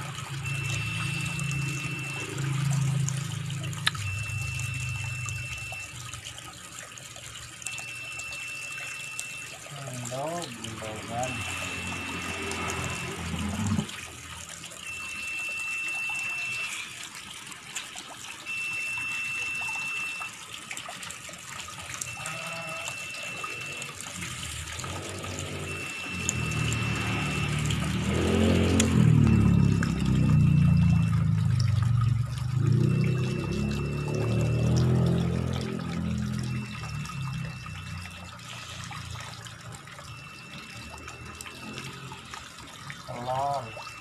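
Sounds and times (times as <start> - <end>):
thin high tone: 0.0 - 6.2, 7.6 - 13.9, 14.7 - 17.2, 18.4 - 20.5, 21.9 - 44.0
water running into a tub: 0.0 - 44.0.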